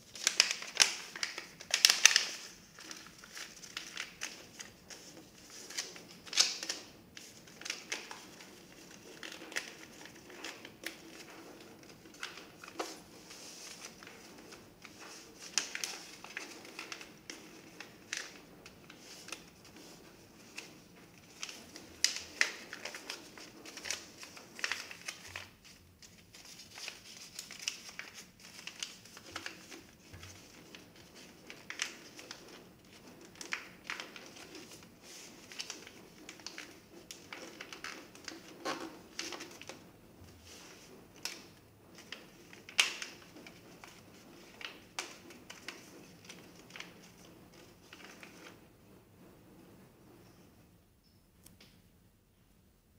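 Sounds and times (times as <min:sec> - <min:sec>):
paper rustling and crinkling: 0:00.0 - 0:48.6.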